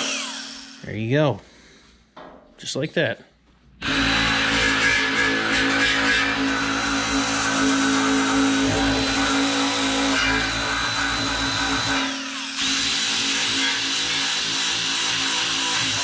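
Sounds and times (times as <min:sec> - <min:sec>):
drill whining: 0:00.0 - 0:00.8, 0:03.8 - 0:16.0.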